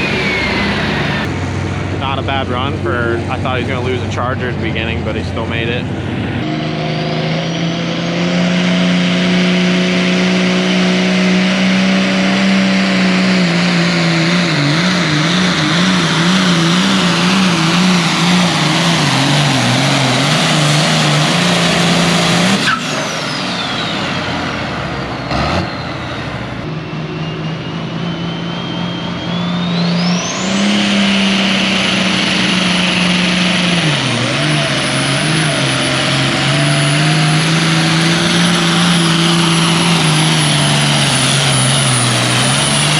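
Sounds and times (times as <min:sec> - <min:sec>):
diesel tractor engine running hard: 0:00.0 - 0:42.9
high turbo whine: 0:00.0 - 0:42.9.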